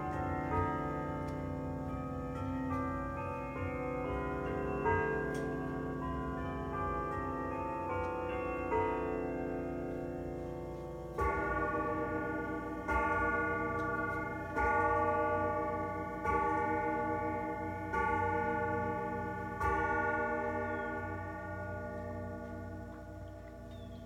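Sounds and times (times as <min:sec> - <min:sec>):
grandfather clock striking: 0:00.0 - 0:23.4.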